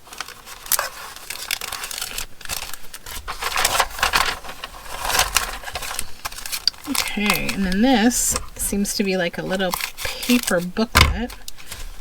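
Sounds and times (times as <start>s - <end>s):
plastic and paper crinkling: 0.0s - 12.0s.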